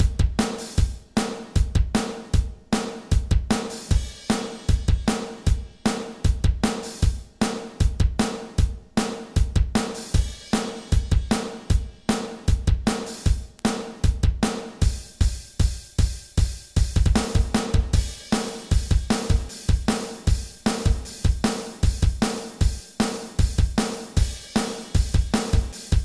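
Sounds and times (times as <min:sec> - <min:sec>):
bass drum: 0:00.0 - 0:26.0
cymbals and hi-hat: 0:00.0 - 0:26.0.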